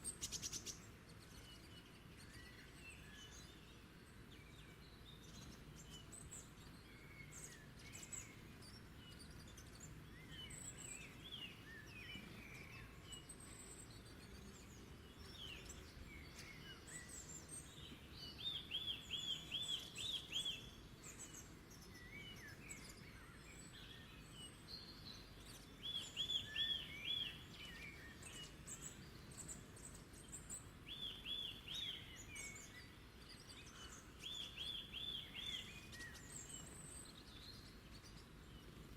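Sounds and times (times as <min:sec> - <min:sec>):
low background hiss: 0:00.0 - 0:38.9
wild birds singing and chirping: 0:00.0 - 0:38.9.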